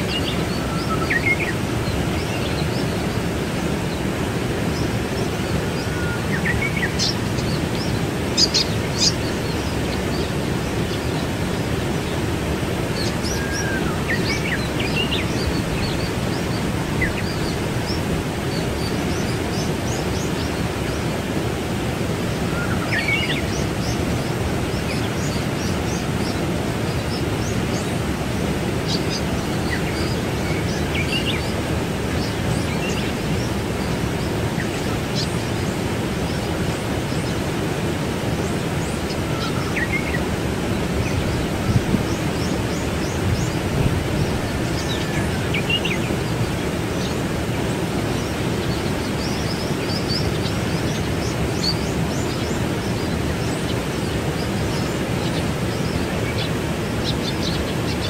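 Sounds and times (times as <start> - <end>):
birds chirping: 0.0 - 58.0
waterfall rushing: 0.0 - 58.0.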